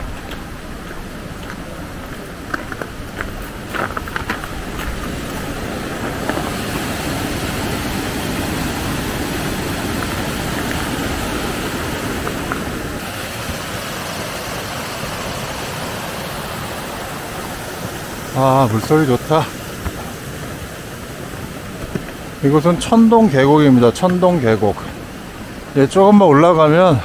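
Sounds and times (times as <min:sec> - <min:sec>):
mountain stream rushing: 0:00.0 - 0:27.0.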